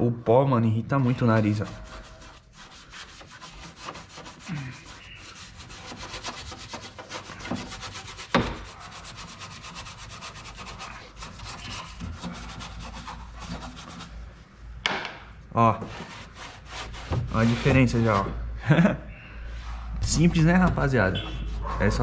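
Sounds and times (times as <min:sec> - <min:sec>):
brush scrubbing sheet metal: 0:01.0 - 0:14.4, 0:15.8 - 0:18.4, 0:19.6 - 0:22.0.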